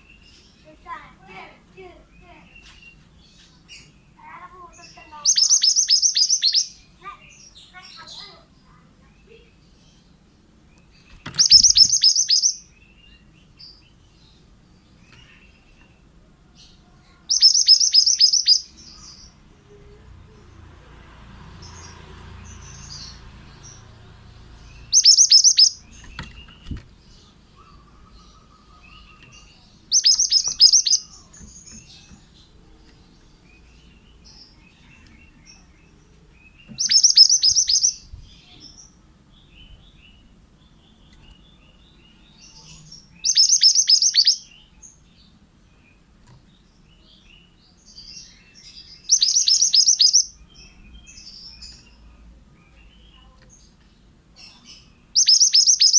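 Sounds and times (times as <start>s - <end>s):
soft bird chirps: 0.0s - 20.7s, 21.5s - 55.9s
bird singing high phrases: 0.0s - 20.8s, 21.4s - 55.9s.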